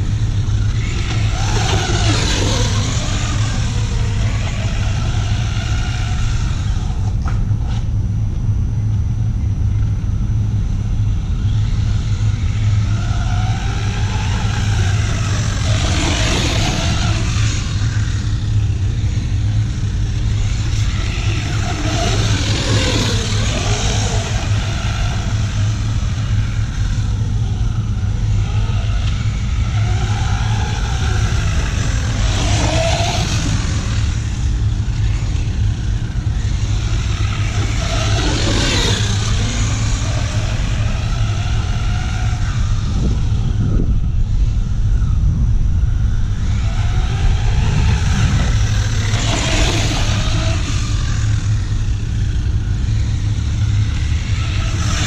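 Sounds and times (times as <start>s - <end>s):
low rumble: 0.0s - 55.0s
toy truck motor whining: 0.3s - 7.0s, 11.4s - 43.6s, 46.4s - 55.0s.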